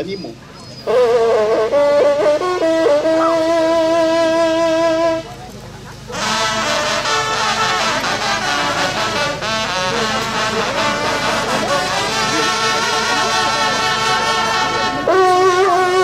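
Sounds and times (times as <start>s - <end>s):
hunting horns playing together: 0.8s - 16.0s.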